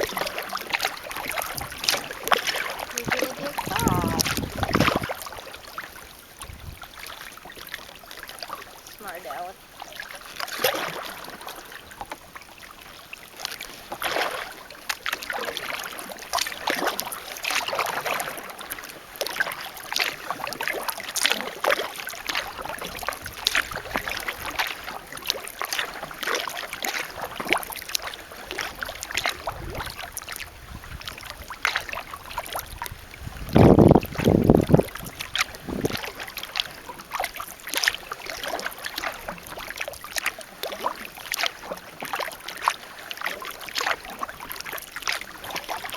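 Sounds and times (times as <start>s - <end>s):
paddle splashing into water: 0.0s - 45.9s.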